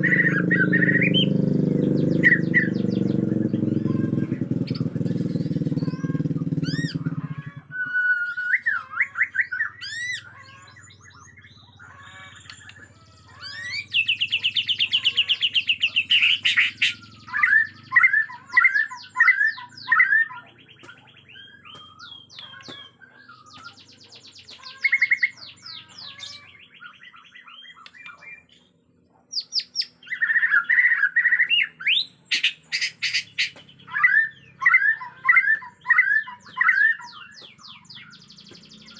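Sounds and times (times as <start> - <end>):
bird singing trills and whistles: 0.0 - 38.9.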